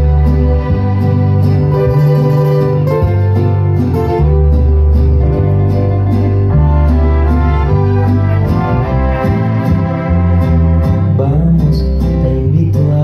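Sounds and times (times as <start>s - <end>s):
instrumental waltz music: 0.0s - 11.2s.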